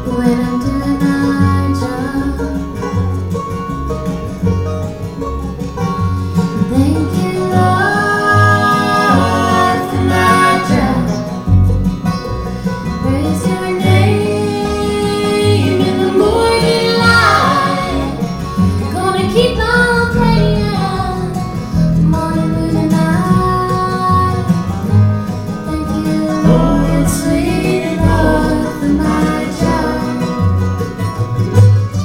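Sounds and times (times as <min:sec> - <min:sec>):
acoustic guitar: 0:00.0 - 0:32.0
banjo: 0:00.0 - 0:32.0
fiddle: 0:00.0 - 0:32.0
mandolin: 0:00.0 - 0:32.0
upright bass: 0:00.0 - 0:32.0.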